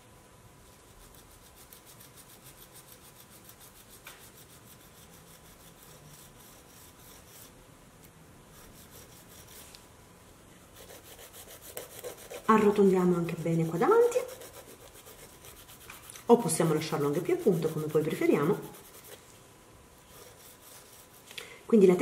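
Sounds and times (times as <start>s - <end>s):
nail file rasping: 0.7s - 7.5s, 8.6s - 9.8s, 10.8s - 19.2s, 20.1s - 21.3s.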